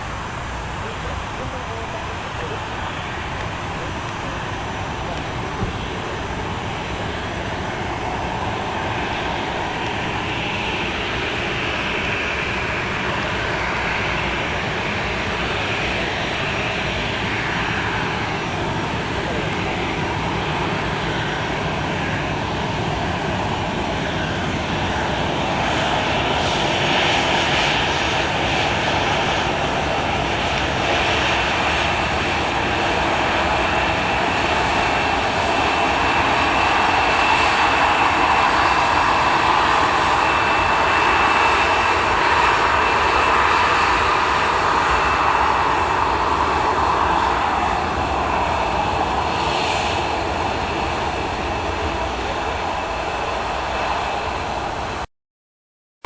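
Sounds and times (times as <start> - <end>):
jet engine roar: 0.0 - 55.1.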